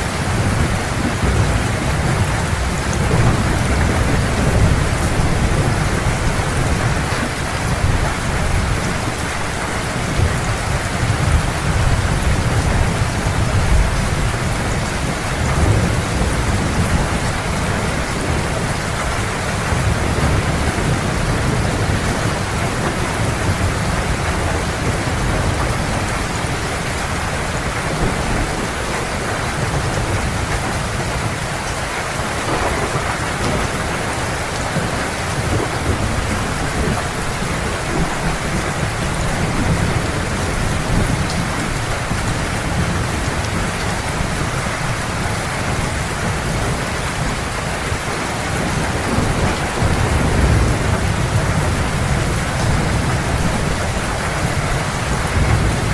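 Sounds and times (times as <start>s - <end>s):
distant thunder rumbling: 0.0s - 9.5s, 10.1s - 55.9s
heavy rain: 0.0s - 55.9s.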